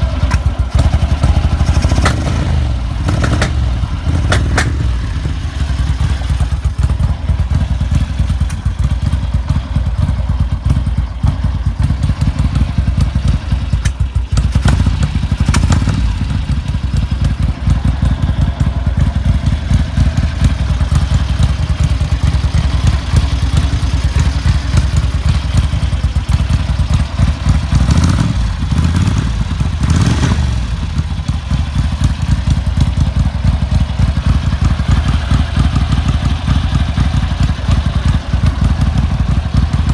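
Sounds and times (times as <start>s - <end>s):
motorcycle engine exhaust pulses: 0.0s - 39.9s.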